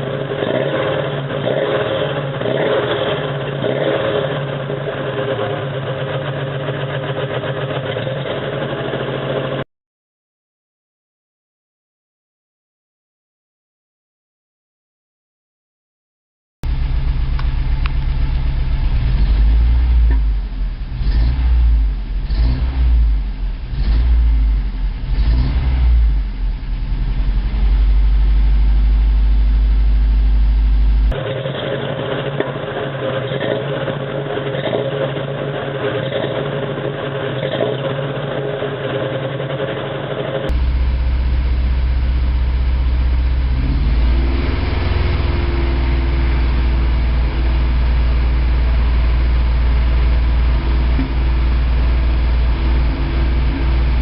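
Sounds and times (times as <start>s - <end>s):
engine running rough and misfiring: 0.0s - 9.6s, 16.6s - 54.0s.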